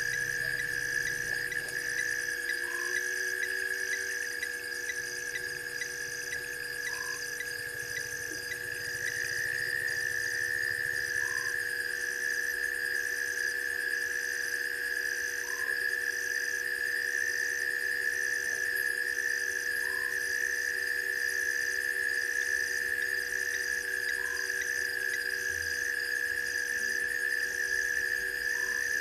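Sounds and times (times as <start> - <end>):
shrill insect drone: 0.0 - 29.0.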